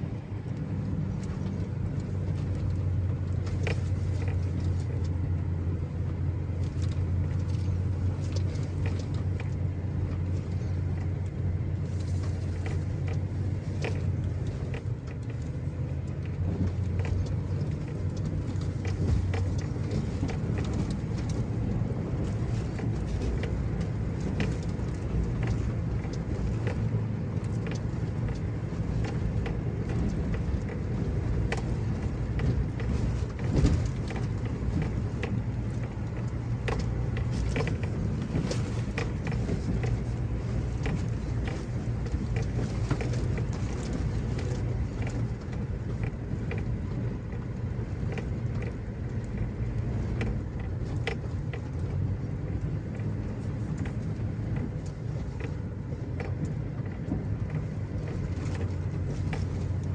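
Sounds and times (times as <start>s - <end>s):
truck engine hum: 0.0s - 59.9s.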